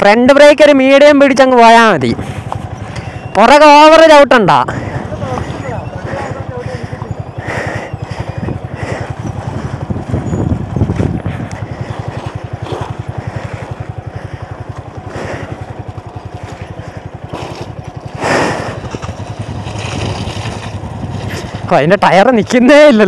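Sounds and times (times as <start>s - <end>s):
motorcycle engine at low revs: 0.2s - 23.0s.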